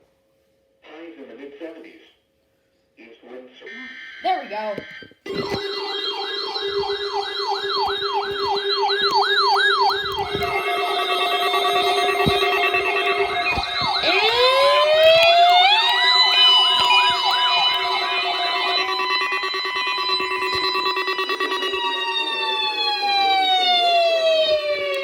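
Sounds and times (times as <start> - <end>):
electronic siren yelp: 3.8 - 25.0
siren winding up in pitch: 4.9 - 25.0
steady siren tone: 4.9 - 25.0.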